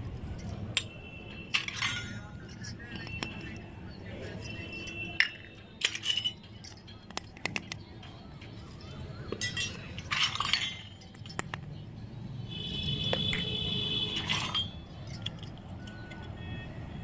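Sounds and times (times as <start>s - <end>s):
metal toy dishes clinking on concrete: 0.0s - 16.4s.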